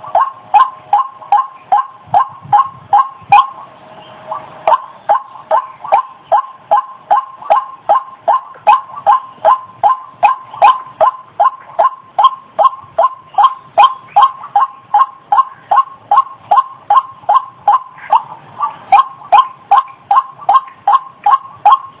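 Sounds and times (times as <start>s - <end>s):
bird calling harsh notes: 0.0s - 22.0s.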